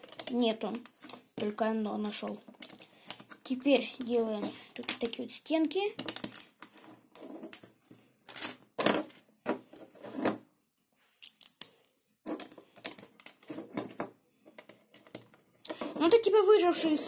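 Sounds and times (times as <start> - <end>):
plastic bricks clicking and clattering: 0.0 - 9.8, 11.2 - 16.3.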